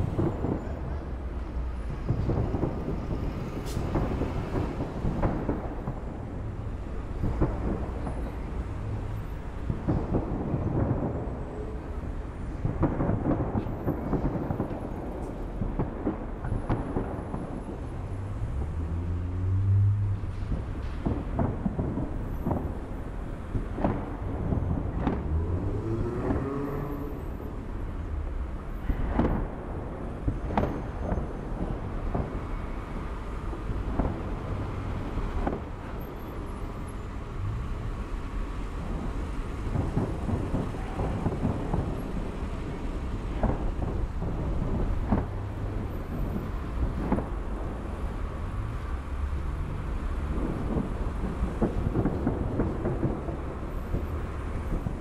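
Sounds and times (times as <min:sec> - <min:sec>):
continuous low rumble: 0:00.0 - 0:55.0
fireworks bangs: 0:00.0 - 0:55.0.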